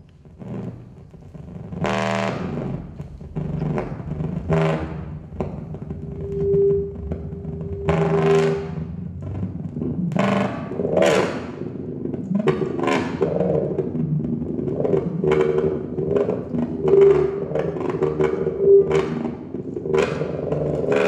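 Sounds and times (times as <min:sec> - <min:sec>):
low continuous sound: 0:00.0 - 0:21.0.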